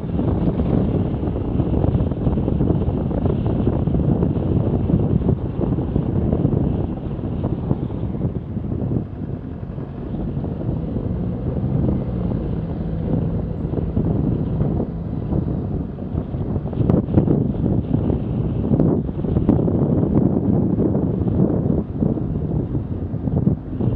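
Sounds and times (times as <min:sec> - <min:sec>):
road traffic: 0:00.0 - 0:23.9
steady engine hum: 0:00.0 - 0:23.9
wind rumbling on microphone: 0:00.0 - 0:23.9.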